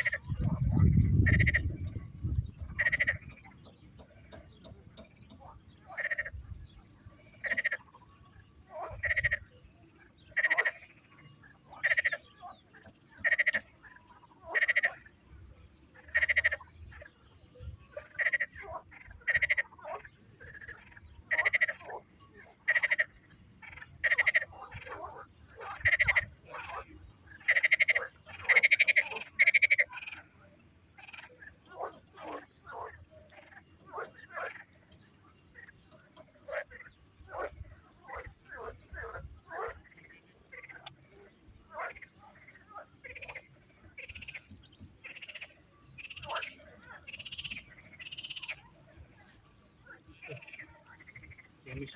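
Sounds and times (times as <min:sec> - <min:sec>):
frog croaking: 0:00.0 - 0:06.4, 0:07.4 - 0:08.0, 0:08.7 - 0:09.5, 0:10.3 - 0:15.1, 0:16.0 - 0:17.1, 0:17.9 - 0:48.8, 0:49.8 - 0:51.9.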